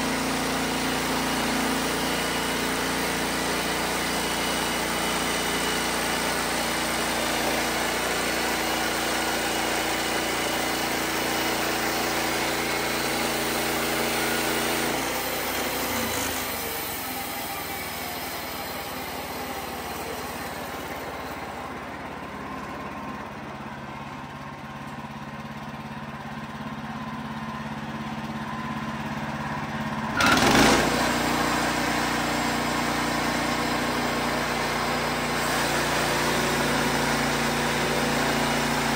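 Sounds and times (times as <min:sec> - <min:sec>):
band sawmill engine: 0:00.0 - 0:38.9.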